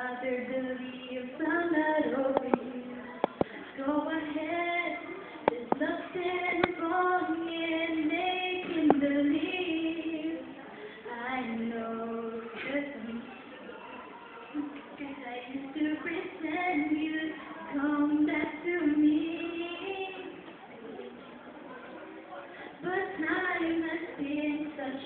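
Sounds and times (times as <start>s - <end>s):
woman singing into a microphone: 0.0s - 13.3s, 15.0s - 20.4s, 22.8s - 25.0s.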